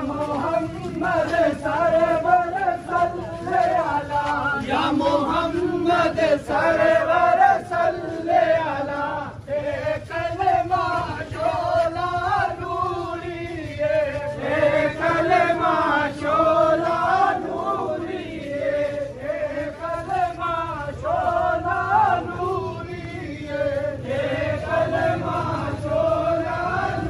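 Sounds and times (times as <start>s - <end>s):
men chanting in unison: 0.0s - 27.0s.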